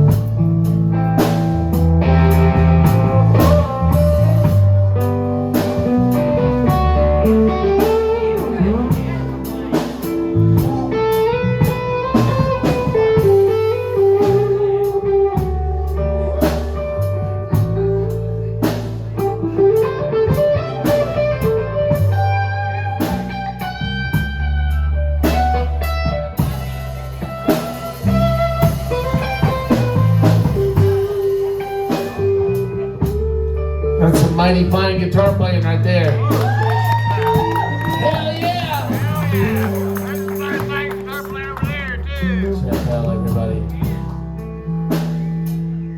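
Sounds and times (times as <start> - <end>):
electric guitar solo: 0.0 - 18.6, 19.2 - 44.8
bass guitar: 0.0 - 45.9
drum kit: 0.0 - 45.9.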